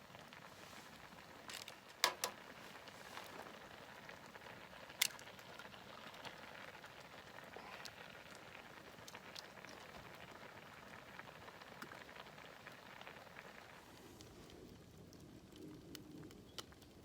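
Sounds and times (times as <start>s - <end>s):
green onions sizzling on grill: 0.0s - 16.6s.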